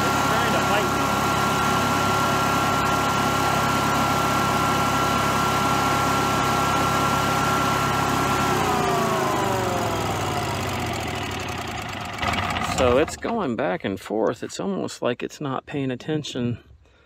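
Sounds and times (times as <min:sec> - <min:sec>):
generator engine running: 0:00.0 - 0:13.8.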